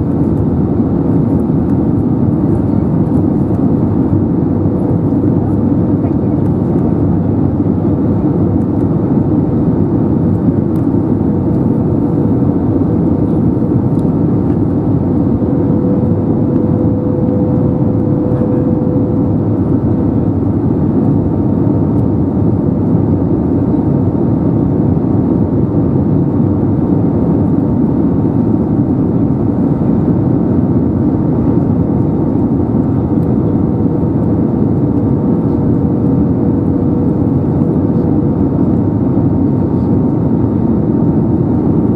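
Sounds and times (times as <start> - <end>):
airplane cabin engine and airflow: 0.0 - 41.9
faint steady hum: 0.0 - 41.9.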